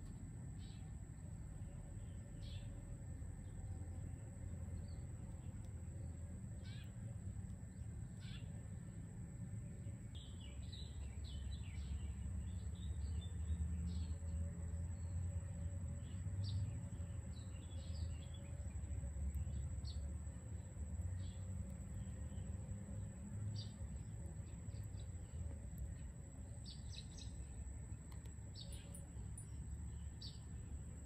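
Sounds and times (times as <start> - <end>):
small birds chirping: 4.7 - 8.9, 9.7 - 31.0.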